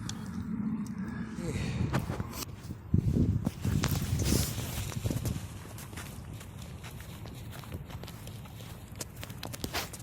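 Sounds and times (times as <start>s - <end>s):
faint footsteps on ground: 1.9s - 10.0s.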